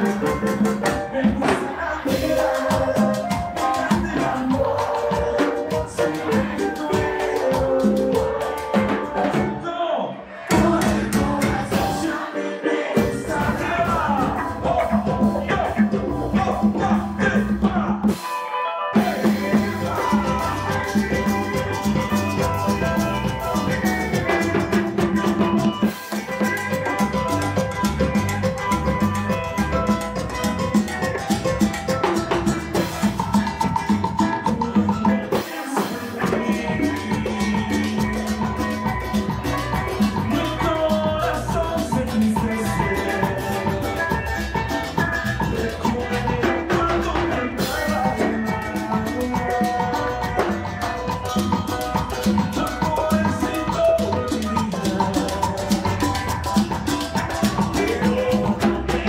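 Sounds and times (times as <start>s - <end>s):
drum kit and cymbals: 0.0s - 9.6s, 10.4s - 59.0s
hand percussion: 0.0s - 9.6s, 10.4s - 18.4s, 19.0s - 59.0s
live salsa band playing: 0.0s - 59.0s.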